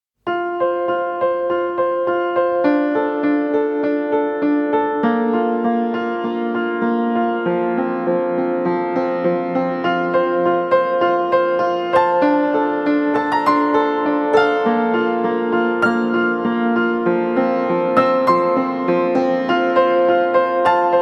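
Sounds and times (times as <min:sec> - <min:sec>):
slow piano music: 0:00.2 - 0:21.0.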